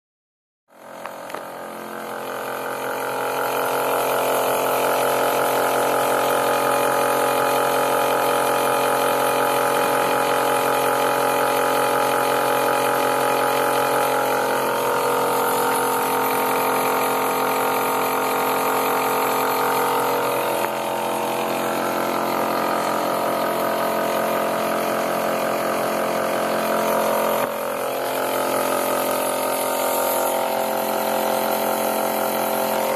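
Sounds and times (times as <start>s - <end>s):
pump motor humming: 0.7s - 32.9s.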